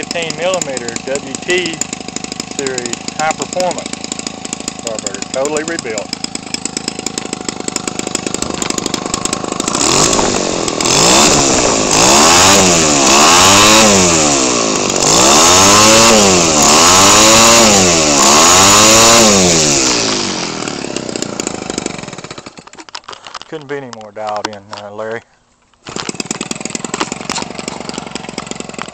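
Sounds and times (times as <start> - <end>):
small two-stroke engine revving: 0.0 - 22.8, 25.8 - 28.9.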